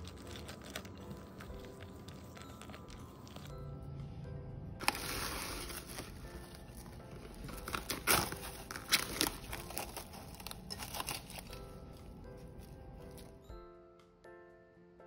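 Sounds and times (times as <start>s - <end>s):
plastic cling wrap crinkling: 0.0s - 3.5s, 4.8s - 13.4s
soft background music: 0.0s - 15.0s.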